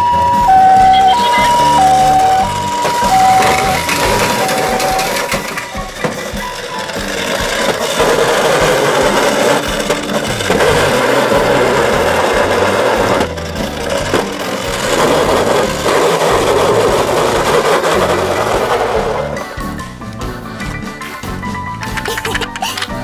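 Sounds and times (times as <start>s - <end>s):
plastic wheels rumbling on wood: 0.0s - 23.0s
toy motor whirring: 0.6s - 19.7s, 21.9s - 23.0s.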